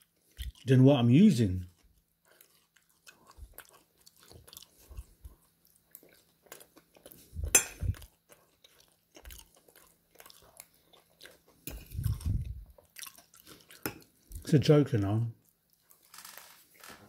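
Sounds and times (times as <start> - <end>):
person chewing food: 0.0 - 14.5, 15.4 - 16.8.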